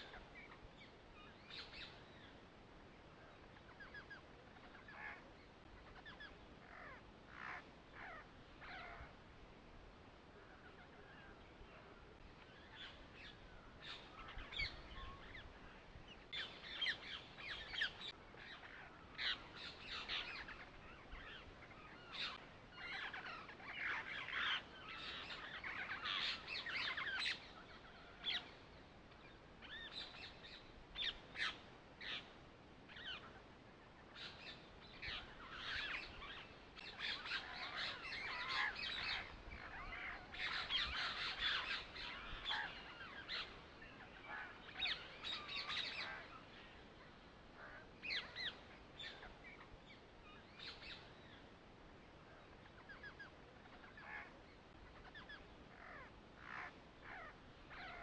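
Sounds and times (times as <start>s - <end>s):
birds chirping: 0.0s - 9.2s, 10.3s - 58.0s.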